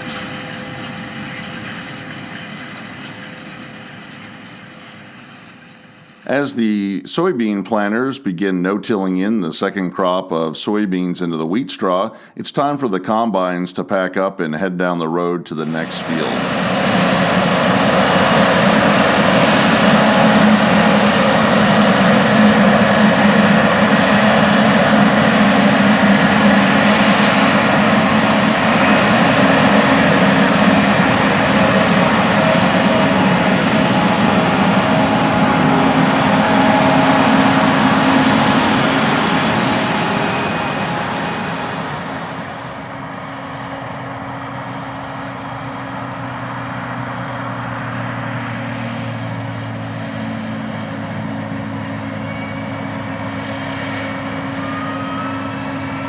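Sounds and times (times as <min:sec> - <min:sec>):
combine diesel engines running: 0:00.0 - 0:13.2, 0:14.8 - 0:56.0.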